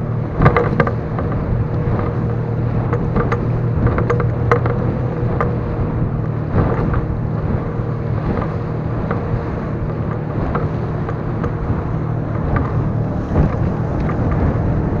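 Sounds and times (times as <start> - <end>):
hull slapping on waves: 0.0 - 15.0
outboard motor running: 0.0 - 15.0
wind buffeting microphone: 0.0 - 15.0.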